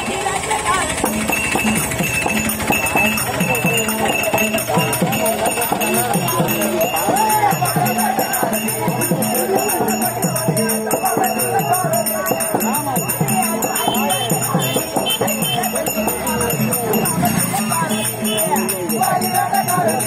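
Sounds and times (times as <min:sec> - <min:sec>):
jingling bells: 0:00.0 - 0:20.0
quick drum beat: 0:00.0 - 0:20.0
wavering melody line: 0:00.1 - 0:20.0.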